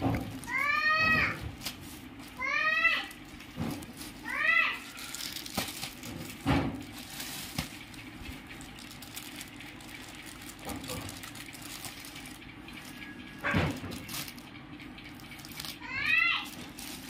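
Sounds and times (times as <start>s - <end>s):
plastic bags rustling and crinkling: 0.0s - 17.0s.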